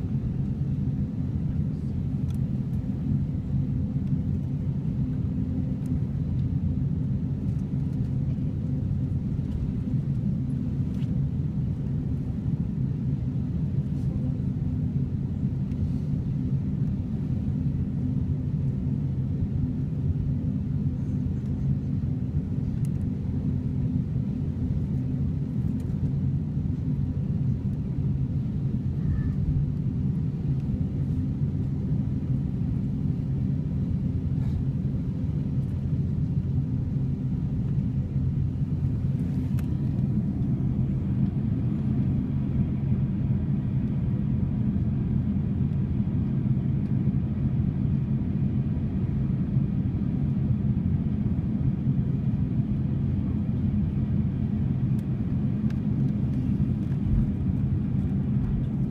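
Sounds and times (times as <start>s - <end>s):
jet engines idling: 0.0s - 58.9s.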